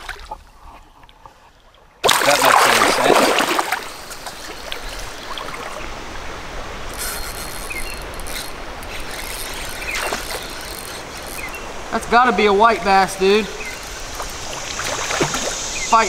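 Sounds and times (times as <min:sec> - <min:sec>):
water splashing: 0:00.0 - 0:00.5, 0:02.0 - 0:16.0
creek trickling: 0:00.0 - 0:16.0.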